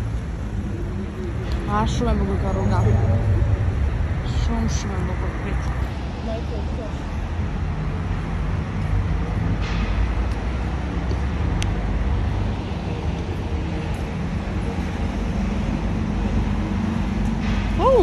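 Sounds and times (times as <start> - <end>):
cars driving by: 0.0 - 18.0.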